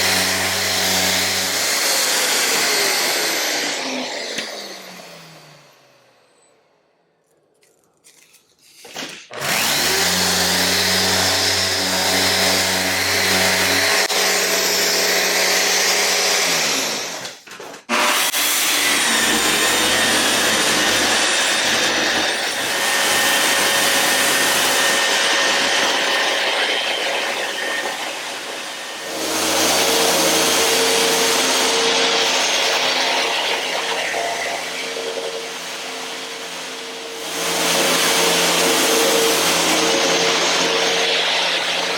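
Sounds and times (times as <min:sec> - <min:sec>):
electric power tool running: 0:00.0 - 0:06.6, 0:08.6 - 0:41.9.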